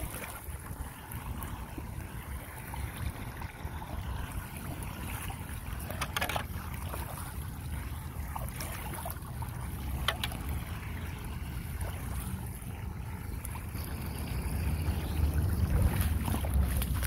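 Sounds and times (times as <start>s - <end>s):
water rushing down storm drain: 0.0s - 17.0s
wind buffeting microphone: 0.0s - 17.0s.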